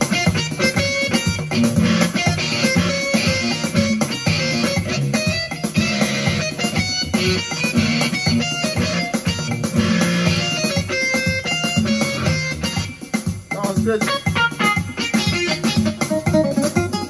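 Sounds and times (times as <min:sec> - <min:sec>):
keyboard playing guitar sound: 0:00.0 - 0:17.0.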